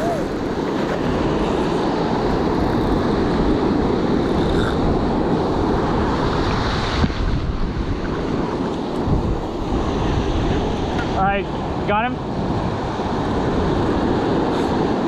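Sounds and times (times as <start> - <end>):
ocean surf washing up beach: 0.0 - 15.0
wind noise on microphone: 0.0 - 15.0.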